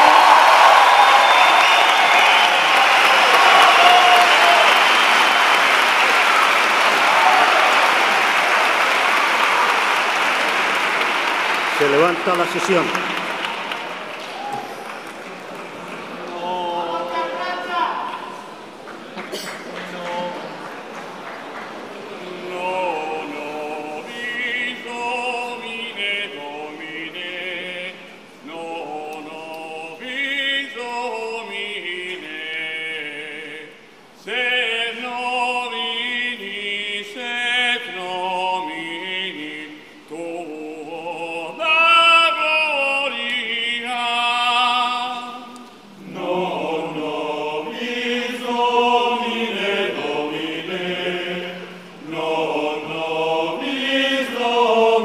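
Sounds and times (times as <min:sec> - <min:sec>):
choir singing: 0:00.0 - 0:11.8, 0:15.5 - 0:18.5, 0:21.7 - 0:55.0.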